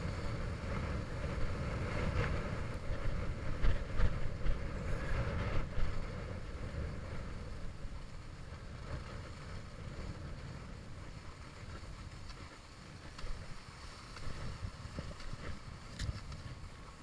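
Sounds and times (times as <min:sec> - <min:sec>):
skis gliding over snow: 0:00.0 - 0:17.0
wind buffeting microphone: 0:00.0 - 0:17.0.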